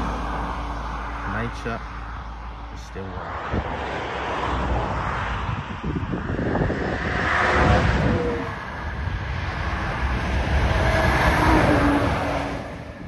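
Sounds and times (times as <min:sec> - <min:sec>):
cars swishing past: 0:00.0 - 0:13.0.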